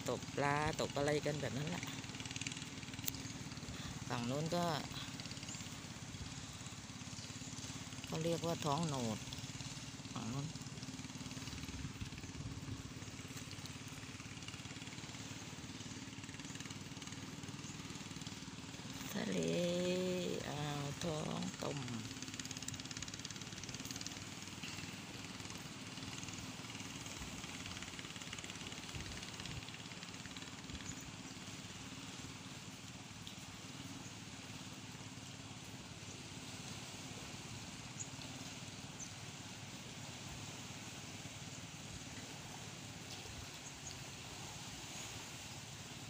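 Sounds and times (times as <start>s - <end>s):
calm sea wash: 0.0s - 46.0s.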